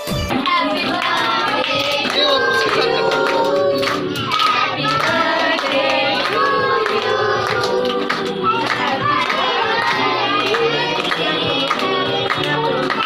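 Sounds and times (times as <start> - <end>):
group singing a birthday song: 0.3 - 13.0
hands clapping along: 0.3 - 13.0.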